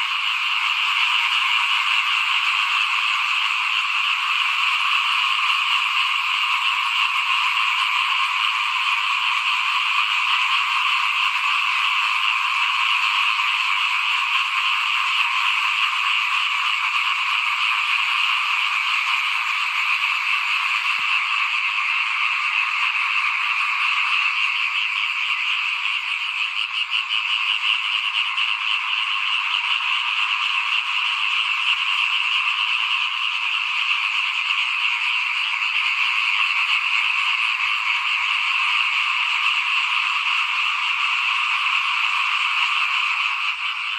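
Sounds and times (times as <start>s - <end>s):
chorus of frogs trilling: 0.0s - 43.9s.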